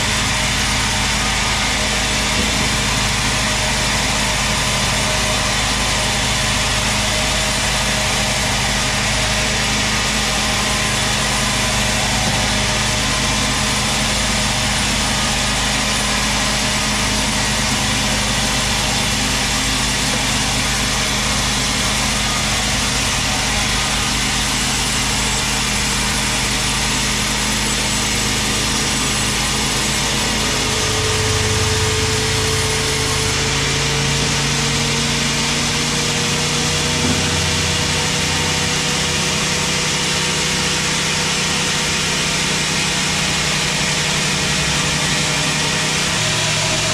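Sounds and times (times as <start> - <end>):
band saw machine hum: 0.0 - 46.9.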